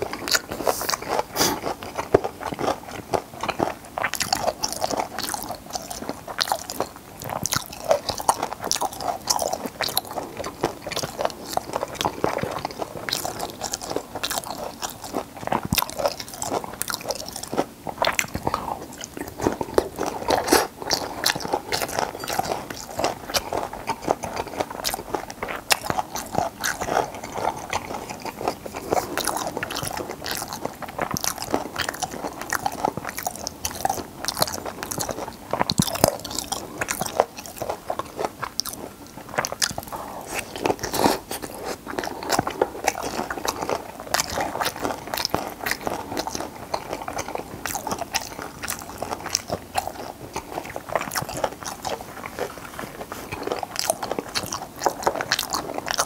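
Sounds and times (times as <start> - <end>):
crunchy chewing: 0.0 - 56.0
wet mouth sounds: 0.0 - 56.0.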